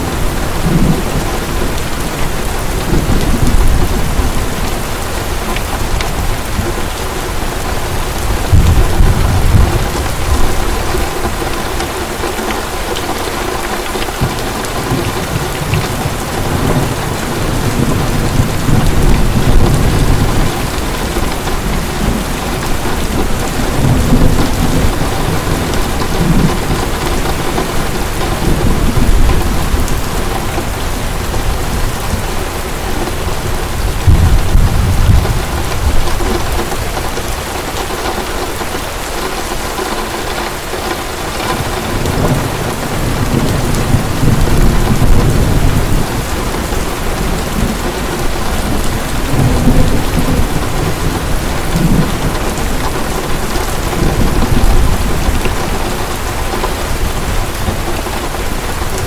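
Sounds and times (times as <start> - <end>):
thunder rumbling: 0.0 - 39.6, 40.9 - 59.0
heavy rain pouring: 0.0 - 59.0.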